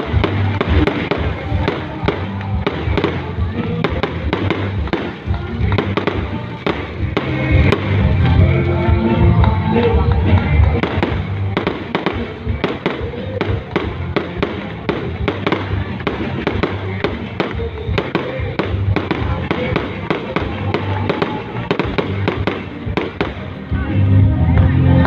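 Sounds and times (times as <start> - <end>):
fireworks bangs and crackles: 0.0 - 23.9
music playing: 0.0 - 25.0.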